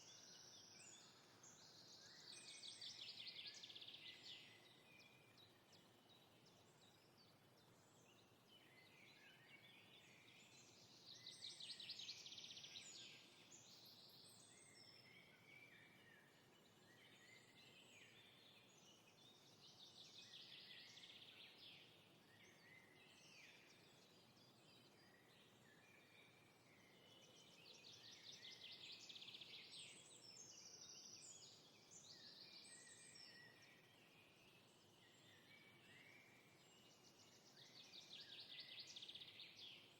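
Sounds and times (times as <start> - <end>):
faint birdsong: 0.0 - 39.9
low steady hiss: 0.0 - 39.9.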